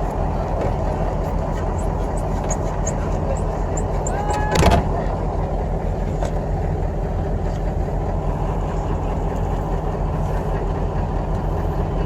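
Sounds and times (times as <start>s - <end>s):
low rumble of moving vehicle: 0.0s - 12.0s.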